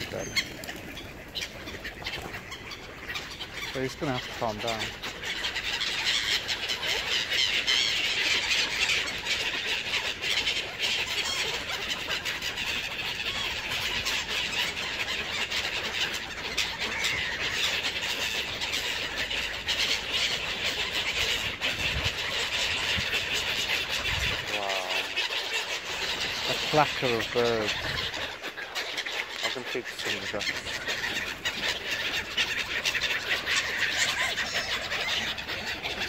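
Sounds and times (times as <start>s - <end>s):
gulls calling: 0.0s - 36.0s
wings fluttering: 0.0s - 36.0s.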